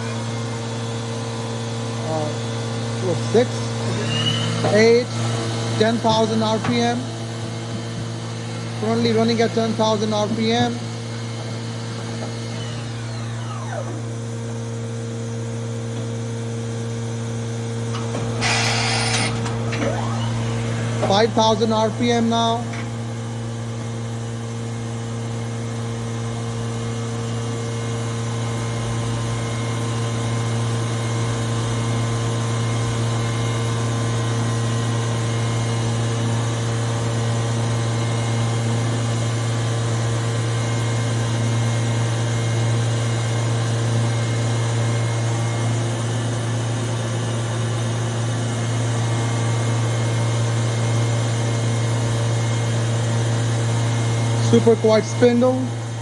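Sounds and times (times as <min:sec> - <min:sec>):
machine spindle humming: 0:00.0 - 0:56.0.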